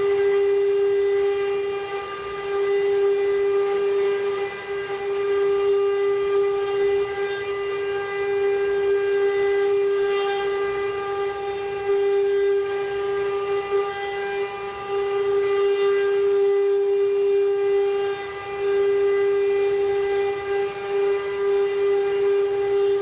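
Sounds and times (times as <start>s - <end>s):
wood carving machine whine: 0.0s - 23.0s.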